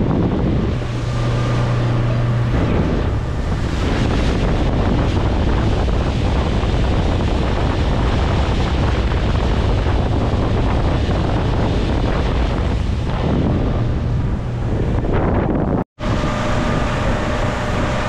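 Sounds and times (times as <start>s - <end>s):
boat engine: 0.0s - 18.0s
water noise: 0.0s - 18.0s
wind buffeting microphone: 0.0s - 18.0s.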